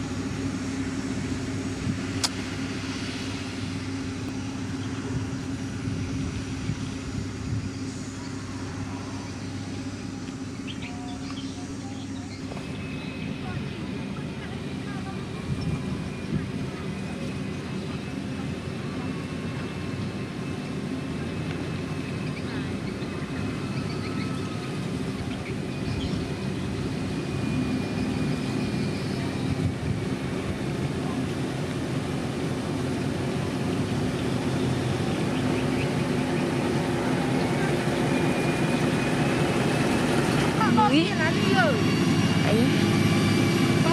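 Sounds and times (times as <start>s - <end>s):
diesel engine humming: 0.0s - 43.9s
faint high whine: 0.0s - 43.9s.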